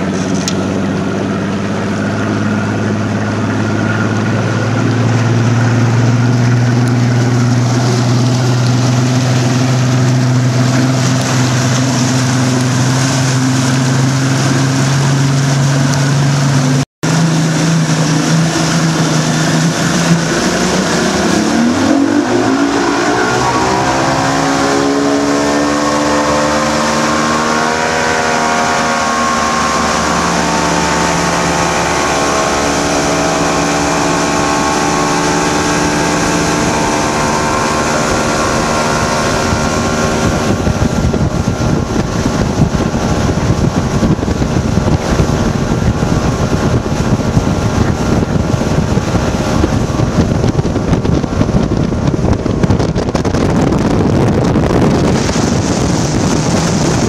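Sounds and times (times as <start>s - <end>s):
outboard motor driving a boat: 0.0s - 57.0s
rushing water: 0.0s - 57.0s
wind buffeting microphone: 0.0s - 57.0s.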